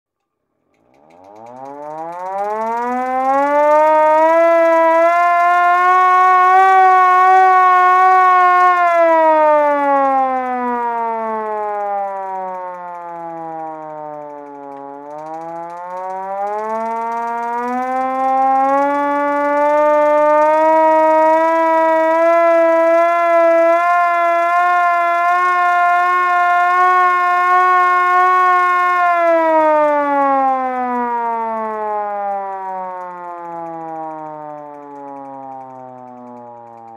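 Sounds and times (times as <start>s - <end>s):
manual fire siren wailing: 1.0s - 36.9s.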